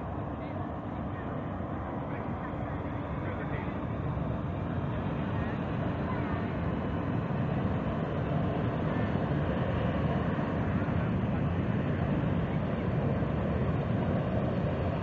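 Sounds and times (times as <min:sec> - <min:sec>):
jet engine running: 0:00.0 - 0:15.0.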